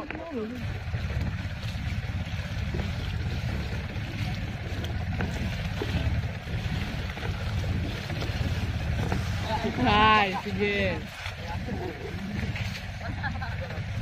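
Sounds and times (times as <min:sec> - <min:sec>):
boat engine idling: 0:00.0 - 0:14.0
wind on microphone: 0:00.0 - 0:14.0.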